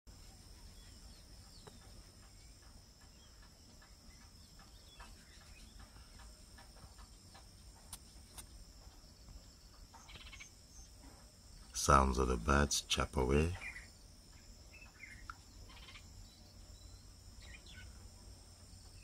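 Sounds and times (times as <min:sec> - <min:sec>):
high-pitched insect trill: 0:00.1 - 0:19.0.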